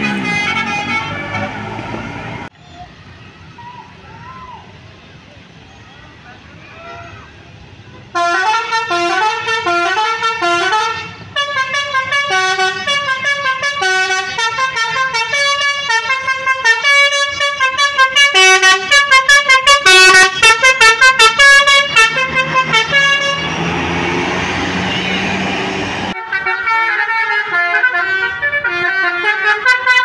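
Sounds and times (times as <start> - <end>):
multi-tone bus horn playing a tune: 0.0 - 2.4, 8.1 - 30.0
bus engine passing: 0.0 - 30.0.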